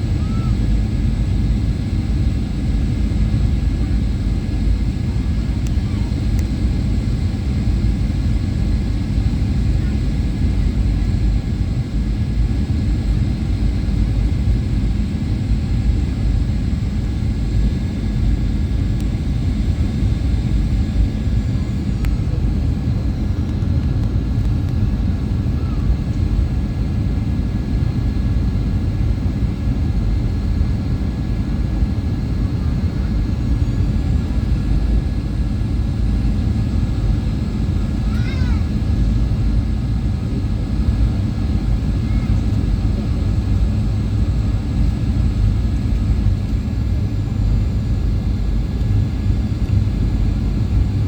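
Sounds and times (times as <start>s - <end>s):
airliner cabin engine rumble: 0.0s - 51.0s.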